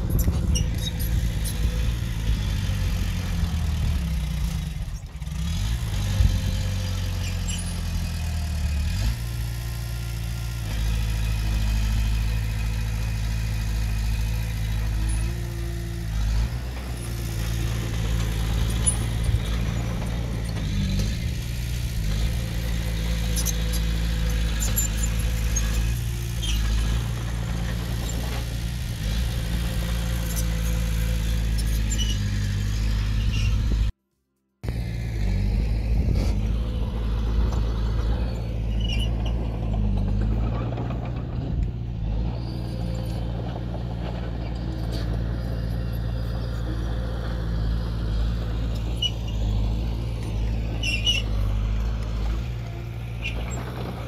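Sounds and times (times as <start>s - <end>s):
heavy diesel engine droning: 0.0s - 34.0s, 34.6s - 54.0s.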